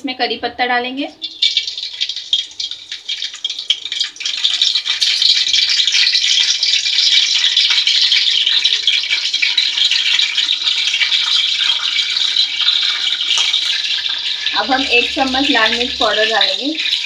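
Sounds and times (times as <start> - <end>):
leaves sizzling in hot oil: 1.2 - 17.0.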